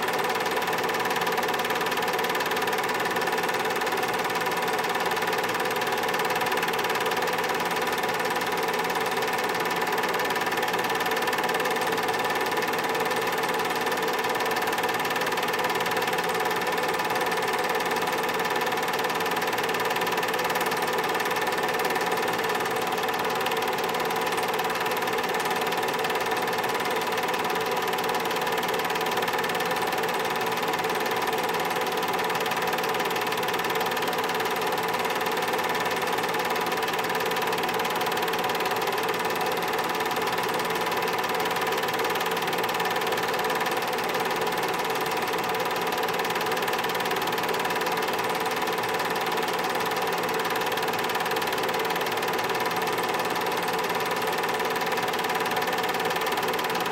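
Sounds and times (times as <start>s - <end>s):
film projector whirring: 0.0s - 56.9s.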